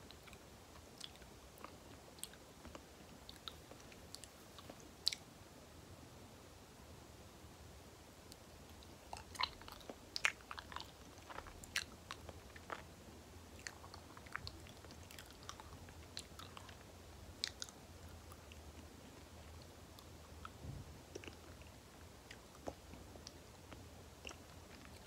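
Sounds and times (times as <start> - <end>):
close chewing with wet clicks: 0.0 - 5.2, 8.3 - 12.9, 13.5 - 25.0.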